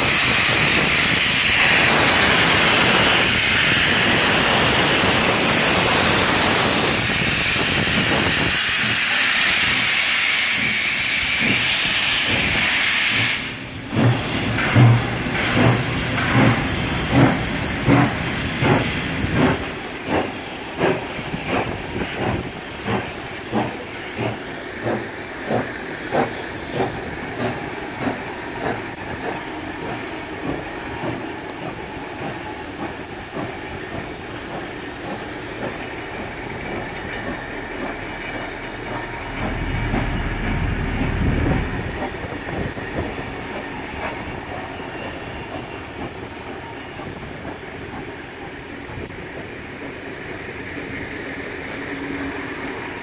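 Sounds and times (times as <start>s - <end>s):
steam locomotive exhaust chuffs: 0.0s - 53.0s.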